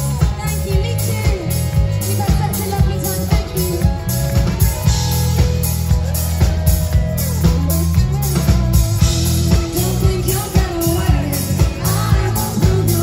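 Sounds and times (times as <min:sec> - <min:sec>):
bass guitar line: 0:00.0 - 0:13.0
drum kit beat: 0:00.0 - 0:13.0
electric guitar: 0:00.0 - 0:13.0.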